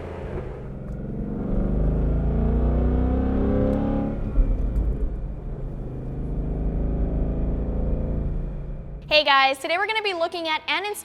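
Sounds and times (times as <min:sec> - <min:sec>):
car engine revving: 0:00.0 - 0:09.1
exhaust pop: 0:00.1 - 0:09.1.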